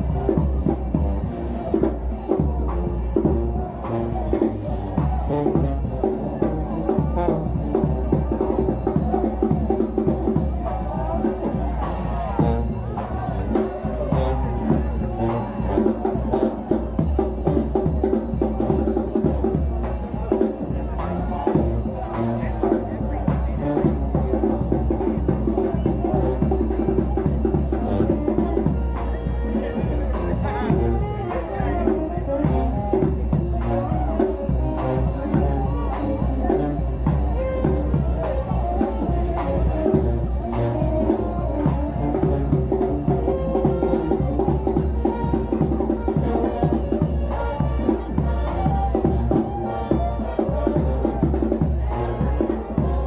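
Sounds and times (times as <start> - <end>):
drums and bass beat: 0.0 - 53.0
trombone and trumpet notes: 0.0 - 53.0.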